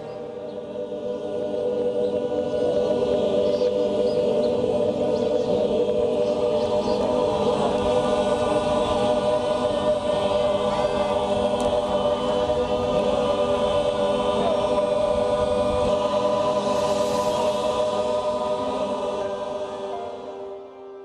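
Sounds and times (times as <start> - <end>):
choir-like voices holding chords: 0.0 - 21.0.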